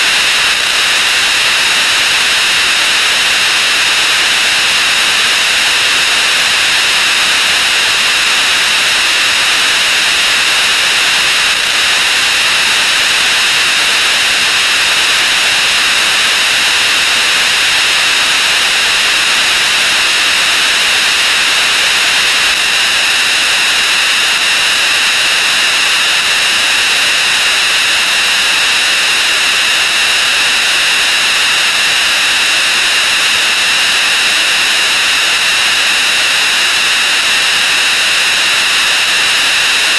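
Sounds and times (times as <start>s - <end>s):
harsh high-pitched hissing noise: 0.0s - 39.9s.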